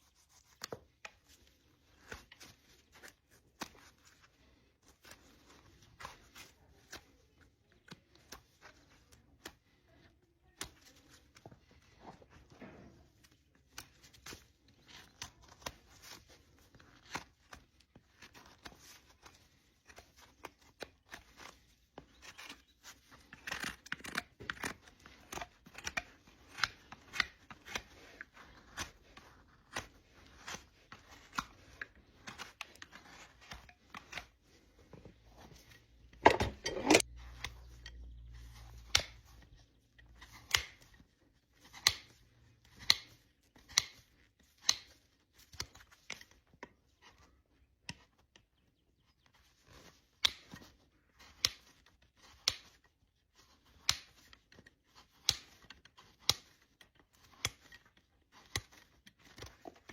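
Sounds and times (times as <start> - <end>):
tools cutting horse hoof: 5.0 - 11.6, 13.7 - 48.5, 49.2 - 59.9.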